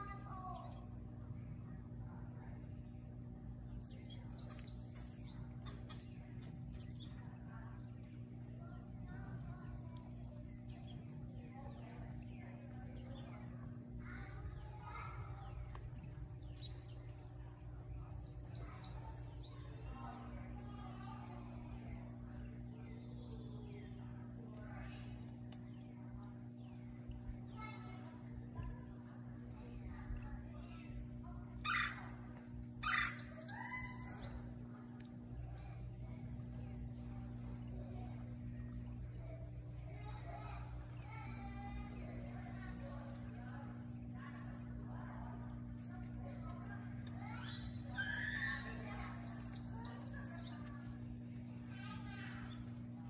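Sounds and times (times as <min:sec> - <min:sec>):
birds chirping: 0:00.0 - 0:53.0
low hum: 0:00.0 - 0:53.0.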